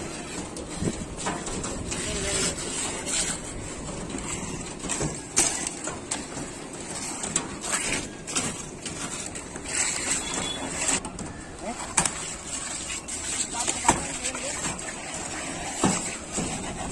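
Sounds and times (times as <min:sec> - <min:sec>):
trowel scraping wet concrete: 0:00.0 - 0:11.0, 0:11.7 - 0:16.9.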